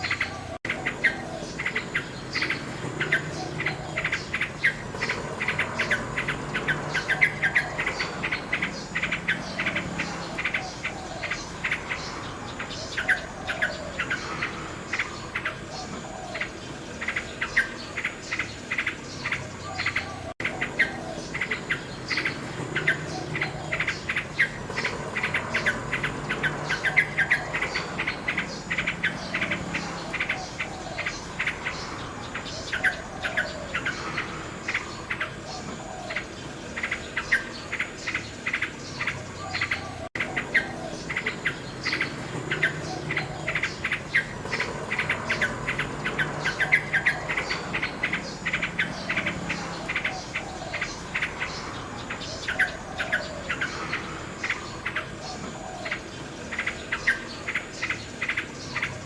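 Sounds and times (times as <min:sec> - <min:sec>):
insects chirping: 0:00.0 - 0:59.0
nightingale singing: 0:00.0 - 0:59.0.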